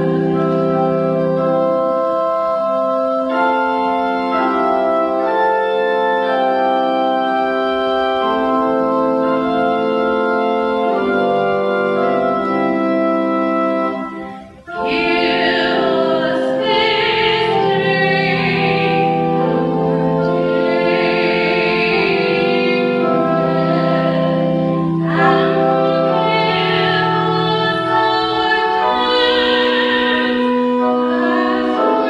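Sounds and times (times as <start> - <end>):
organ chords: 0.0 - 32.0
wavering organ melody: 0.0 - 32.0.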